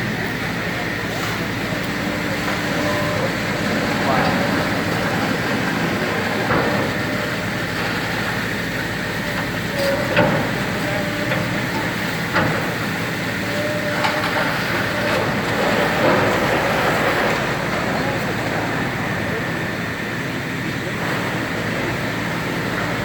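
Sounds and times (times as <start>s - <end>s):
heavy machinery running: 0.0s - 23.0s.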